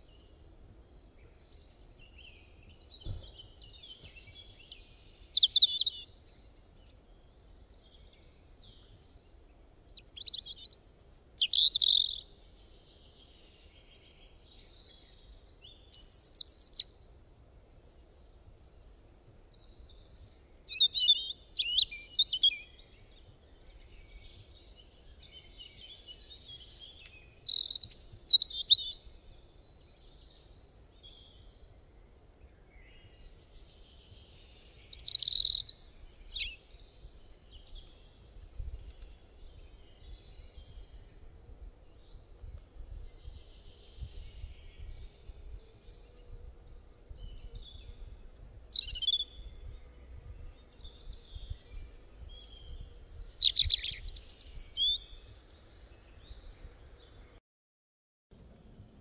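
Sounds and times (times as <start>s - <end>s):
small songbirds chirping: 0.0s - 17.2s, 17.8s - 57.4s.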